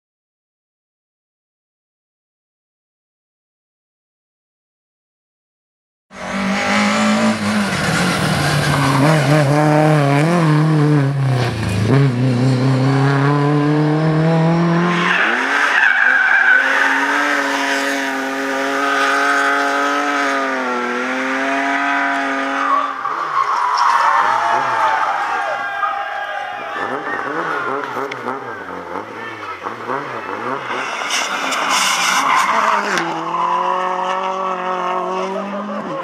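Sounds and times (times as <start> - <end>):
rally car engines revving: 6.1 - 36.0.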